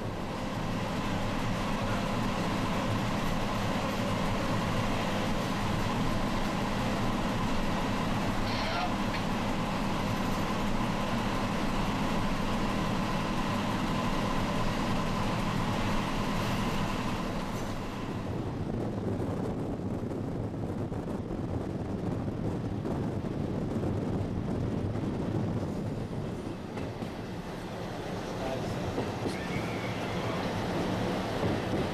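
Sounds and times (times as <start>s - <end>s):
train rolling on rails: 0.0s - 31.9s.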